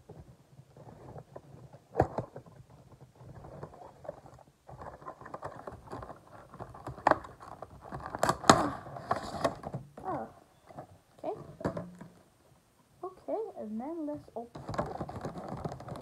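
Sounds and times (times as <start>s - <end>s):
cardboard packaging rattling: 0.0s - 12.3s, 14.5s - 16.0s.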